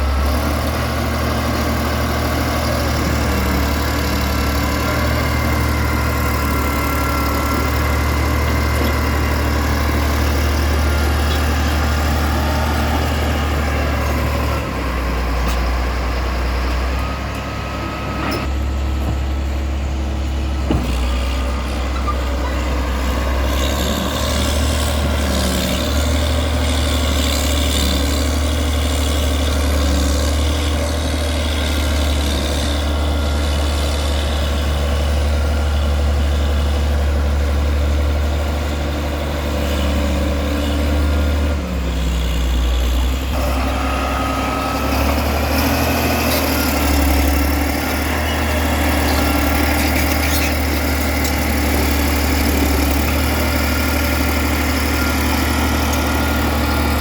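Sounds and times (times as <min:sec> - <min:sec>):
bulldozer diesel engine idling: 0:00.0 - 0:57.0.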